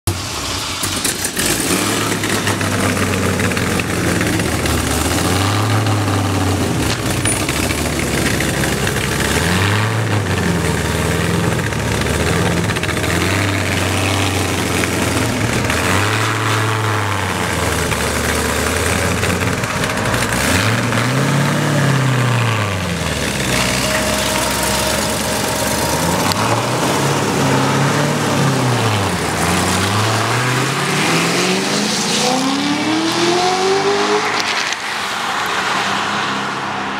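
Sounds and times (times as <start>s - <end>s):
car engine idling and revving: 0.0s - 36.9s
car accelerating hard: 0.8s - 36.9s.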